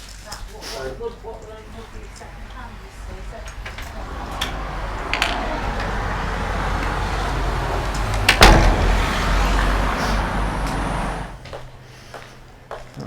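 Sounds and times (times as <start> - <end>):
road vehicle passing: 0.2 - 12.3.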